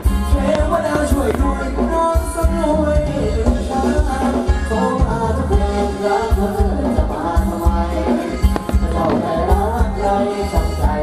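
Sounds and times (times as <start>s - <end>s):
live band dance music: 0.0s - 11.0s
person singing: 0.0s - 11.0s.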